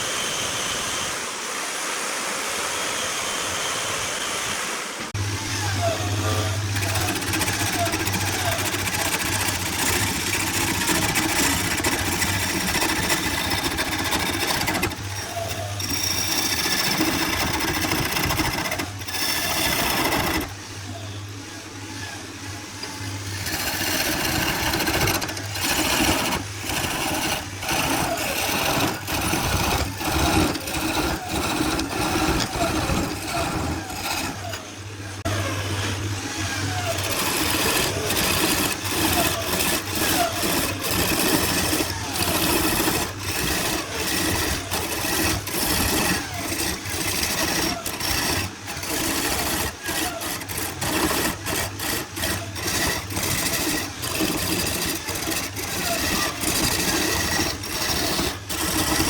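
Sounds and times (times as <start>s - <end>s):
rough wood cutting noise: 0.0s - 59.0s
power tool motor hum: 3.4s - 59.0s.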